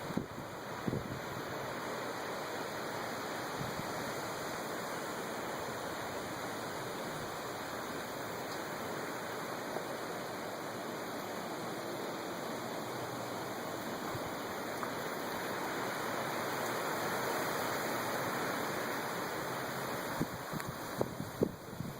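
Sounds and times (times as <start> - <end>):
wind and rain rushing: 0.0 - 21.9.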